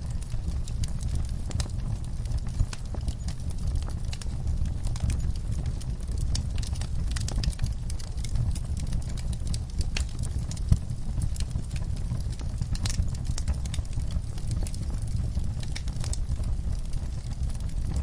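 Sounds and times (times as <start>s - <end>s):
fireplace crackling and popping: 0.0s - 18.0s.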